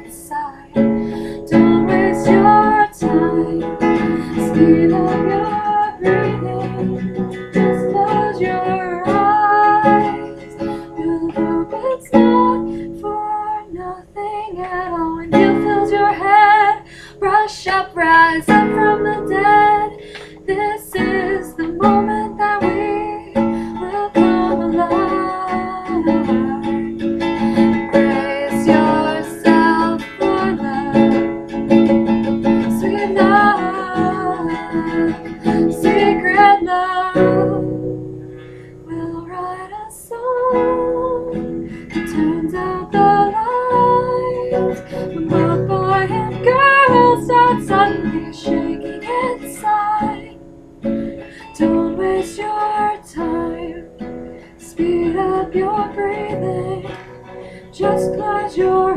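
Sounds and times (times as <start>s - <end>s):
woman singing: 0.0s - 38.1s, 38.7s - 58.9s
acoustic guitar: 0.0s - 58.9s.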